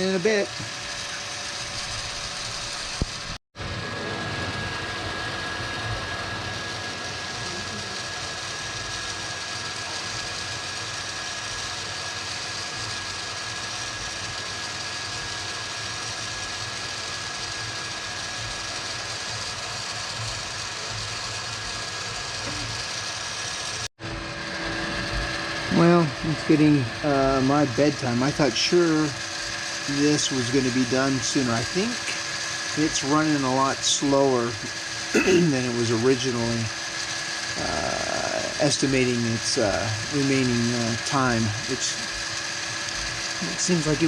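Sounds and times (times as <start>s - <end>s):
printer mechanical drone: 0.0s - 44.0s.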